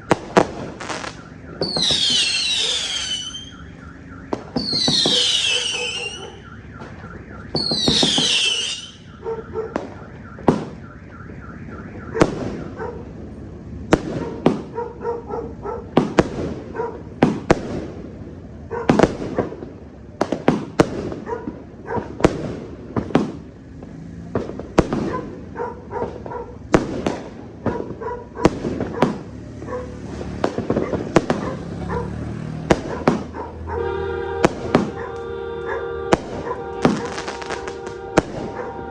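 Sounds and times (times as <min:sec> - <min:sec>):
fireworks shots and booms: 0:00.0 - 0:14.8, 0:15.9 - 0:31.8, 0:32.6 - 0:38.9.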